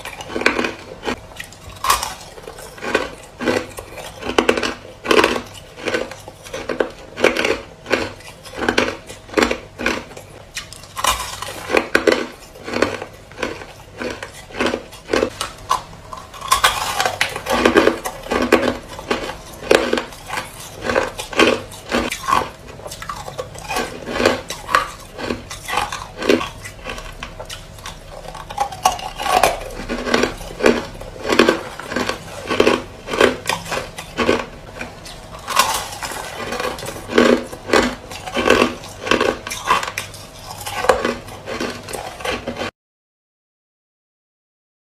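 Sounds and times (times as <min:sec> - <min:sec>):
crushed ice being chewed: 0:00.0 - 0:42.7.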